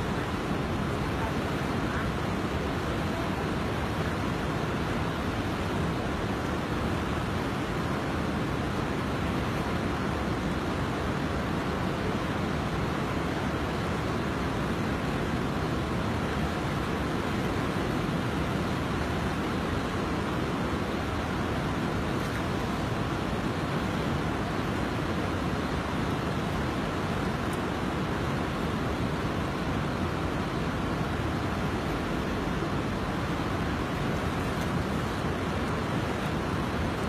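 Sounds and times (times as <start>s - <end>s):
flooded river rushing: 0.0s - 37.0s.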